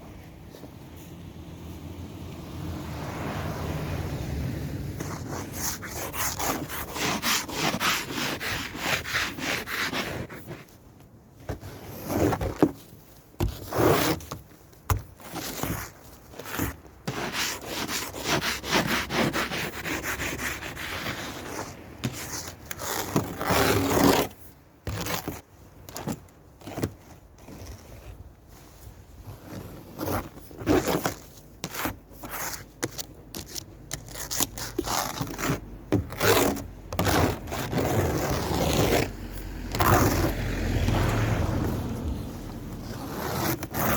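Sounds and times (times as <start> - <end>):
scraping snow off a car: 4.9 - 10.8, 11.4 - 43.9.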